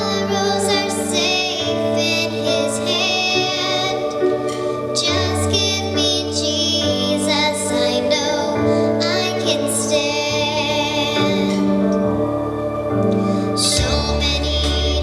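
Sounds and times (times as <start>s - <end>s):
gospel singing: 0.0s - 15.0s
low sustained chords: 0.0s - 15.0s.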